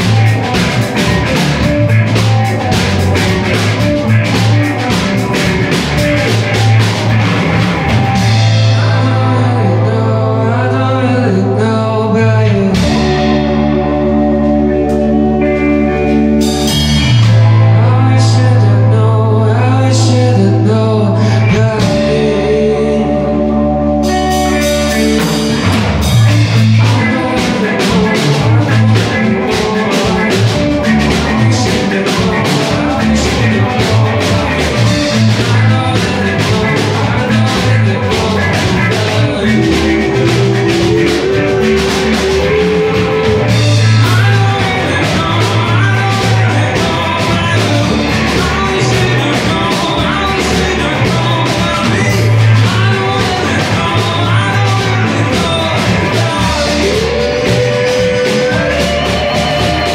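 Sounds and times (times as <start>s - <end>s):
held bass notes: 0.0s - 59.9s
live rock band: 0.0s - 59.9s
man singing lead vocal: 0.0s - 59.9s.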